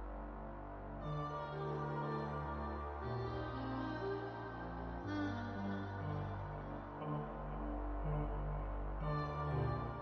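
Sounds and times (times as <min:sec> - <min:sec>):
ambient synth tones: 0:00.0 - 0:10.0.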